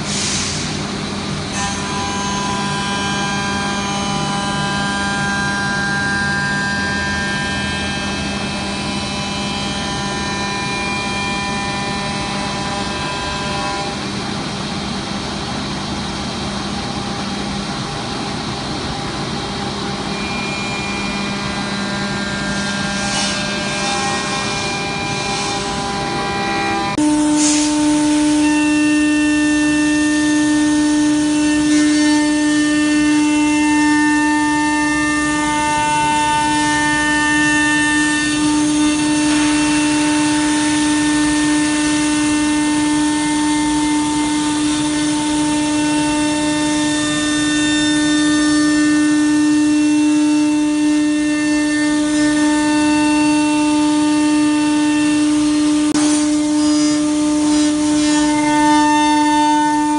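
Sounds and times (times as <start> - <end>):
router spindle whining: 1.5 - 14.2, 20.0 - 59.9.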